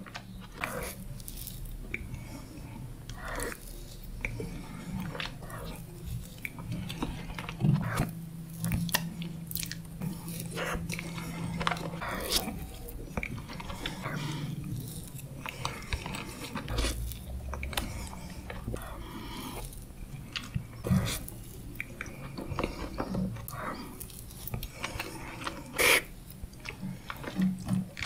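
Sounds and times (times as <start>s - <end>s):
low steady hum: 0.0s - 28.0s
wet chewing: 0.0s - 28.0s
lip smacks: 4.2s - 27.6s.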